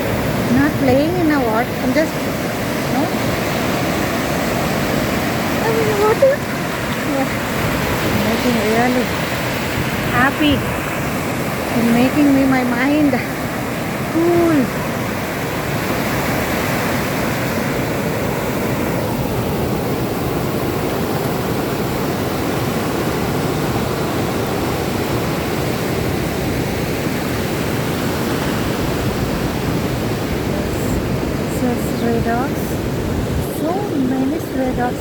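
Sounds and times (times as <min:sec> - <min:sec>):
sea surf breaking: 0:00.0 - 0:35.0.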